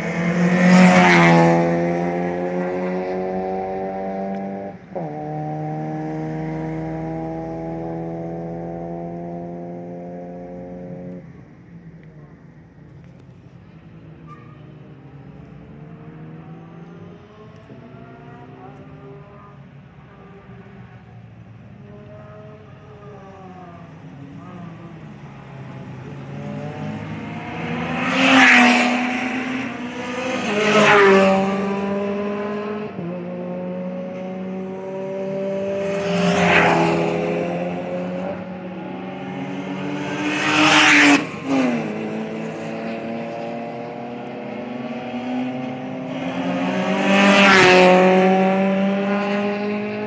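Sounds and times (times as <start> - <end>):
distant engines: 0.0 - 50.0
race cars passing at speed: 0.0 - 50.0.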